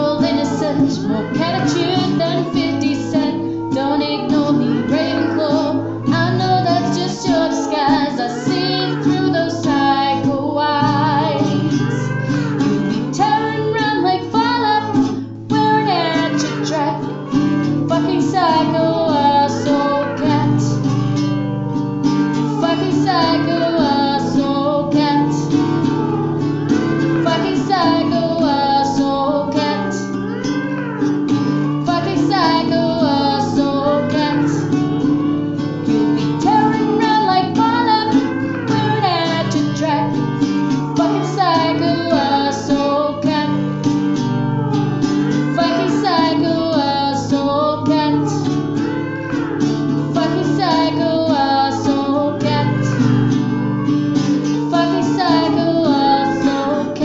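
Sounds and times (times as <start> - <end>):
person singing in high voice: 0.0 - 21.0, 22.3 - 35.4, 36.2 - 43.8, 45.3 - 57.0
guitar accompaniment: 0.0 - 57.0.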